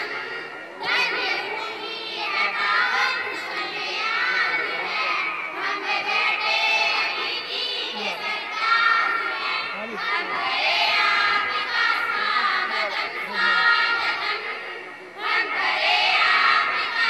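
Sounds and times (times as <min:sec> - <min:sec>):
girls singing together: 0:00.0 - 0:17.0.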